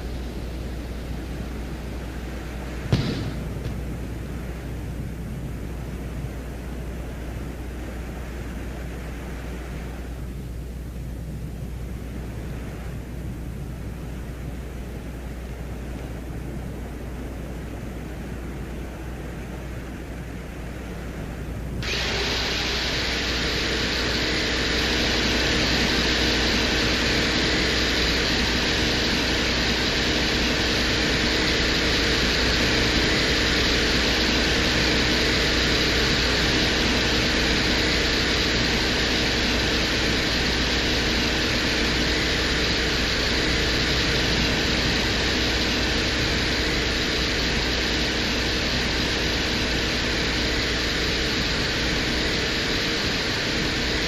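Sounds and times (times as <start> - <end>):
faint steady tones: 0.0 - 54.0
low hum: 0.0 - 54.0
static-like hiss of wind: 0.0 - 54.0.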